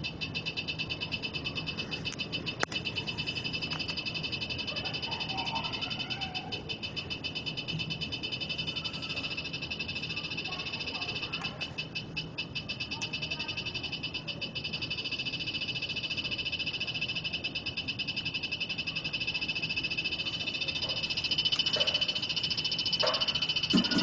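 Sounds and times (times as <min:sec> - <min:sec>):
meter beeping rapidly: 0:00.0 - 0:24.0.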